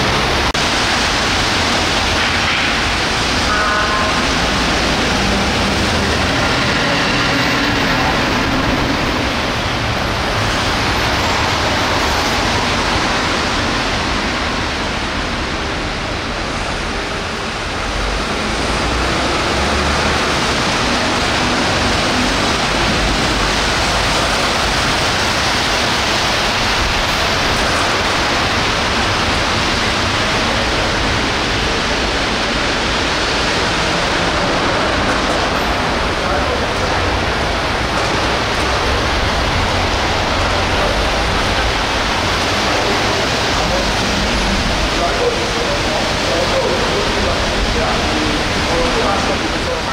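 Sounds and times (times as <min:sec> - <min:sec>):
traffic on a wet road: 0:00.0 - 0:49.9.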